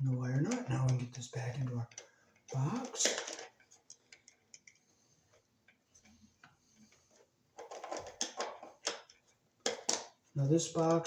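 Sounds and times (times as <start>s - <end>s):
wires clicking and tapping in metal box: 0.0s - 11.0s.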